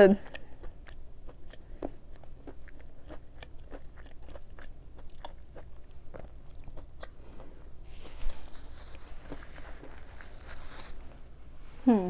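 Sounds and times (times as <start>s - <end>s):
chewing crispy food: 0.2s - 11.4s.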